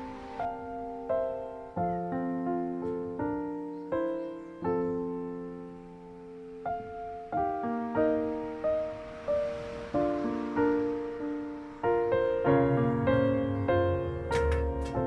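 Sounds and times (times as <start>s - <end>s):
slow gentle piano: 0.0s - 15.0s.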